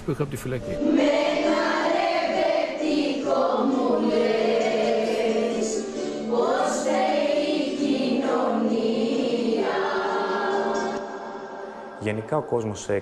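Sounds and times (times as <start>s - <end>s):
choir singing: 0.7s - 12.9s.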